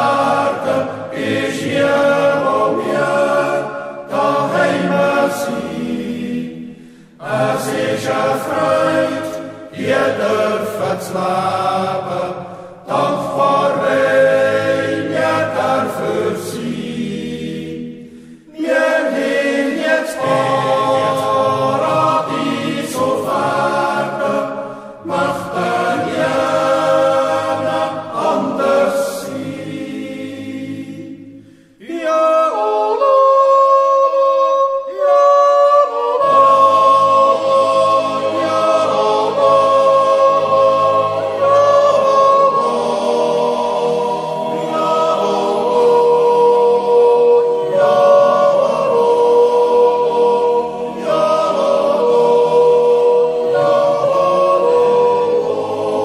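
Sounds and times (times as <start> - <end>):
choir yodelling a cappella: 0.0 - 56.0.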